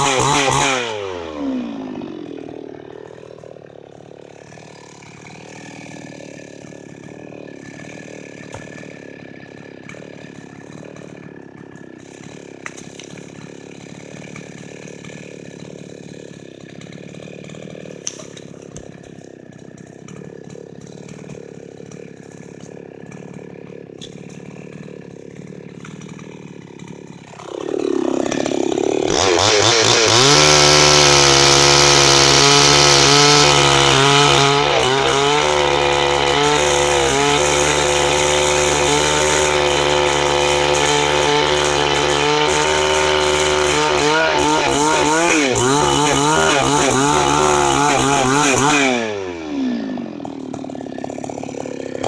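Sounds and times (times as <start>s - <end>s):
chainsaw idling and revving: 0.0s - 52.0s.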